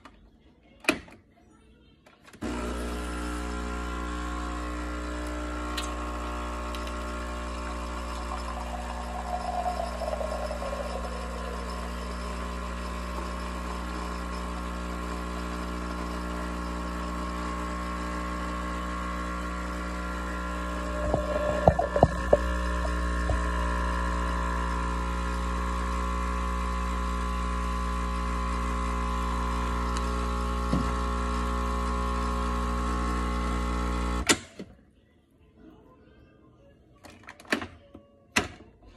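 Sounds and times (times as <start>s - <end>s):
coffee machine pump humming: 2.4s - 34.2s.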